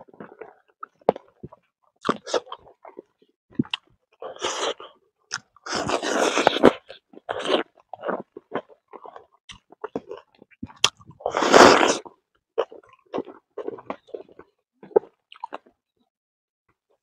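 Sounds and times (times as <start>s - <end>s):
chewing and crunching food: 0.0s - 16.1s.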